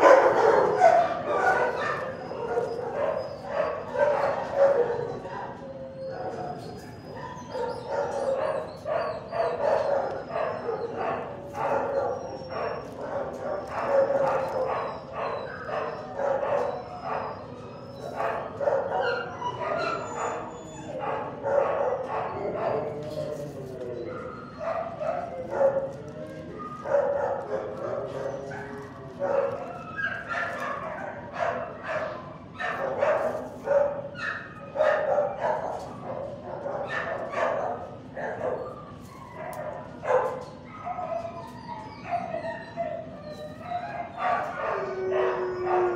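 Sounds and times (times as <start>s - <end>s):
dog barking and yipping: 0.0s - 23.0s, 24.0s - 45.9s.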